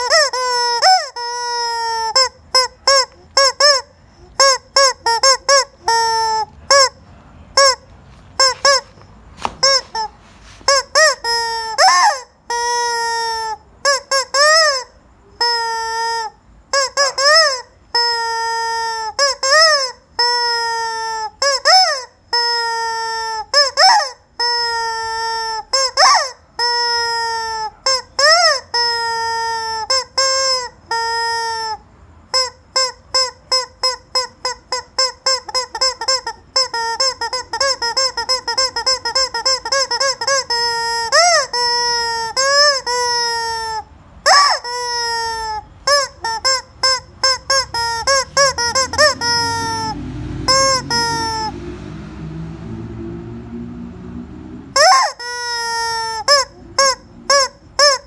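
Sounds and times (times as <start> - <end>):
rubber chicken toy squawking: 0.0 - 51.6, 54.8 - 58.0.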